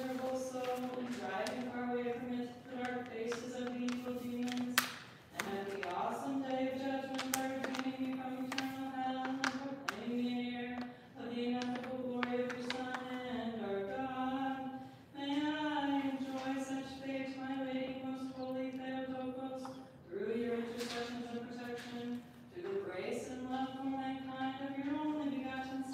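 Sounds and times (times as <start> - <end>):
unaccompanied voice chanting hymn: 0.0 - 25.9.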